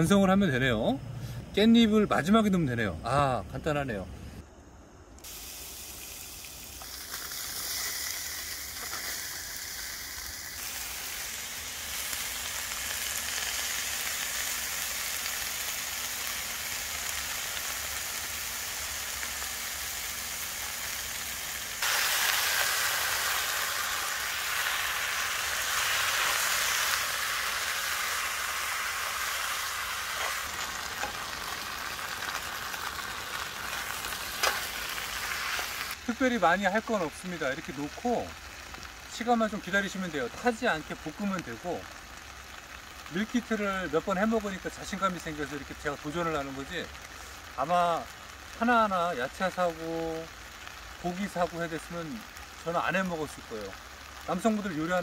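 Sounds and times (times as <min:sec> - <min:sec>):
food sizzling in a pan: 0:05.2 - 0:55.0.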